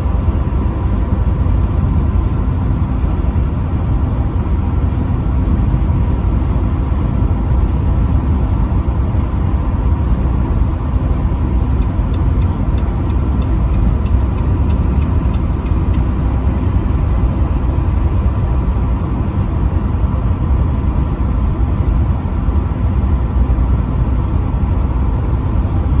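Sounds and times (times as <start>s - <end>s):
truck driving: 0.0s - 26.0s.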